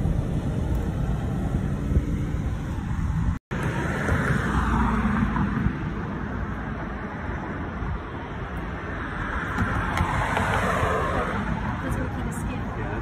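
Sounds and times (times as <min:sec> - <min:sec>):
traffic rumble: 0:00.0 - 0:13.0
vehicle passing: 0:00.0 - 0:13.0.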